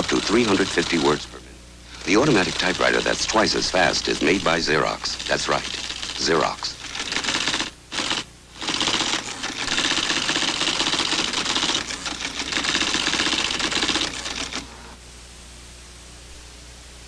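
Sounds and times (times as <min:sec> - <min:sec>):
typewriters clattering: 0:00.0 - 0:01.2, 0:01.9 - 0:14.6.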